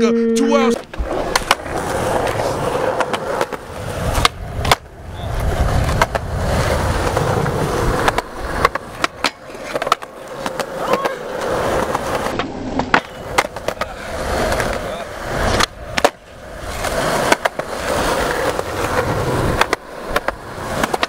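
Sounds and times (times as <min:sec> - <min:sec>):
skateboard wheels rolling on concrete: 0:00.6 - 0:21.0
skateboard clacking on ground: 0:00.7 - 0:21.0.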